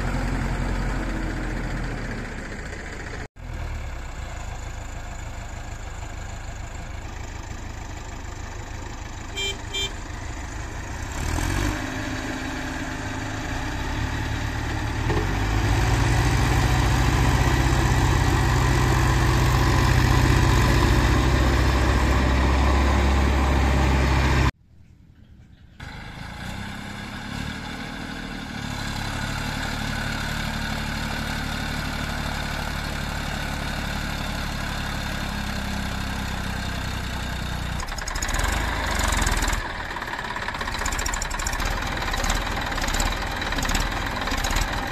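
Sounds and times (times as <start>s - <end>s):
diesel engines running: 0.0s - 24.6s, 25.2s - 44.9s
tractor engine running steadily: 0.0s - 44.9s.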